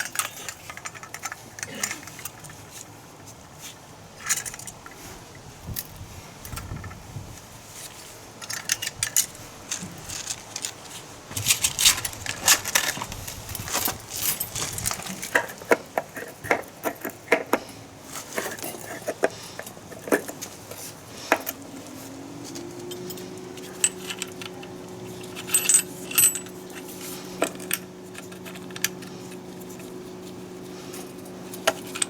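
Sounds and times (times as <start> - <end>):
metal tools clinking: 0.0 - 3.4, 4.2 - 5.0, 8.4 - 32.0.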